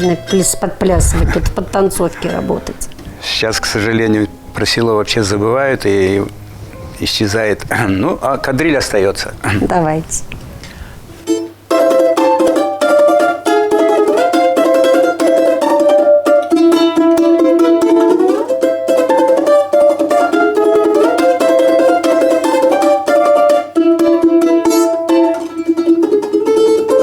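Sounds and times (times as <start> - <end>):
plucked string folk melody: 0.0 - 10.0, 11.1 - 27.0.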